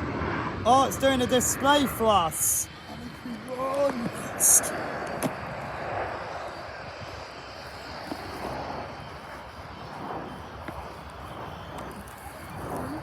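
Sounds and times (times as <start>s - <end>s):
jet flying by: 0.0s - 13.0s.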